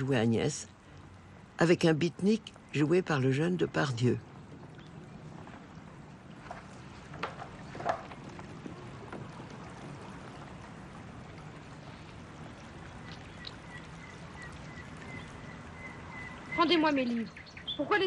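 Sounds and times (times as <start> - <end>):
river water rushing: 0.0 - 17.8.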